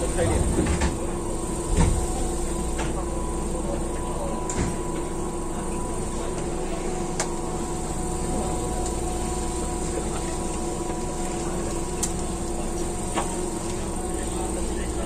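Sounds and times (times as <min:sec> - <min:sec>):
constant hum: 0:00.0 - 0:15.0
train wheels rumbling on rail: 0:00.0 - 0:15.0.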